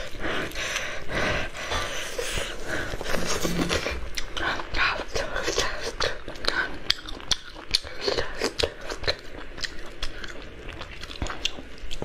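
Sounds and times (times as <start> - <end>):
person chewing crunchy food: 1.6 - 12.0.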